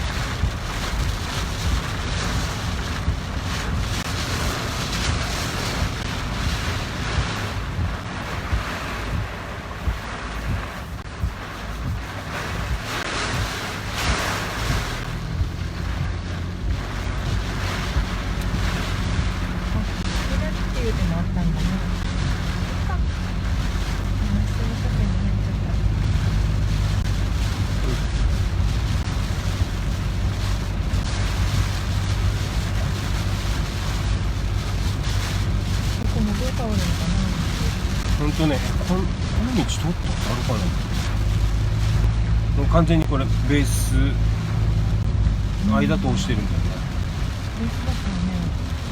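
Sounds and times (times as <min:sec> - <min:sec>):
road and engine rumble: 0:00.0 - 0:48.9
tyres hissing on wet road: 0:00.0 - 0:48.9
wind and rain rushing: 0:00.0 - 0:48.9.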